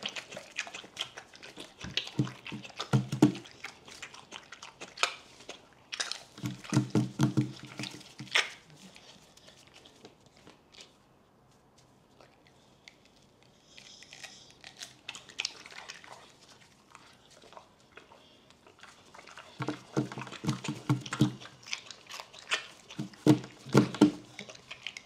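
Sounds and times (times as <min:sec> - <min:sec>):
dog chewing pineapple: 0:00.0 - 0:25.0.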